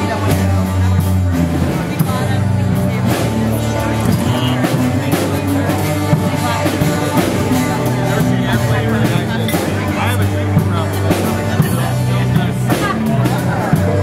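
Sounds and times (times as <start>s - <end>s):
song with drum beat and singing: 0.0s - 14.0s.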